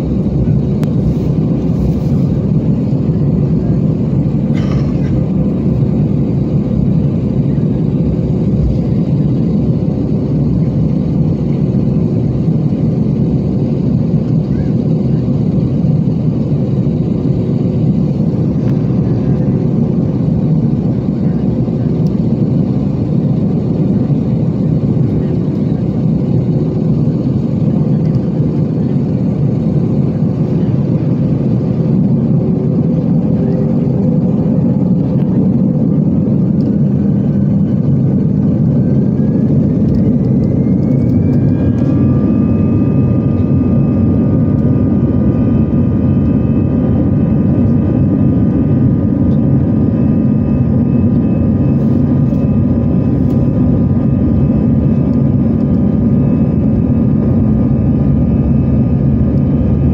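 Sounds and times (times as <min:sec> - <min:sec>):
engine whine climbing: 0:00.0 - 0:59.9
jet engines roaring: 0:00.0 - 0:59.9.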